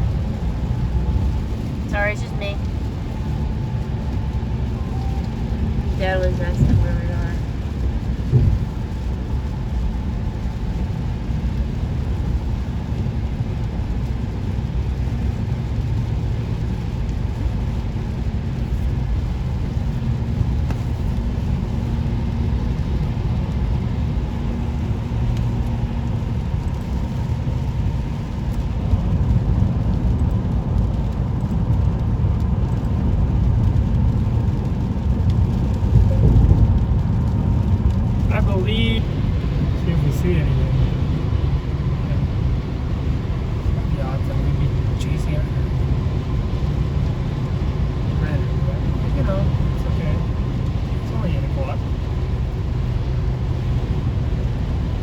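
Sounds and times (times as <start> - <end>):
road and engine noise inside car: 0.0 - 55.0.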